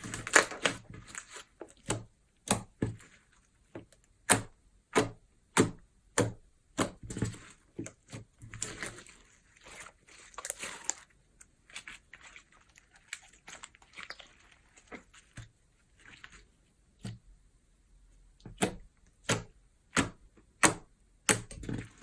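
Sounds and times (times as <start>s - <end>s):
slime squishing: 0.0s - 17.3s, 18.4s - 22.0s.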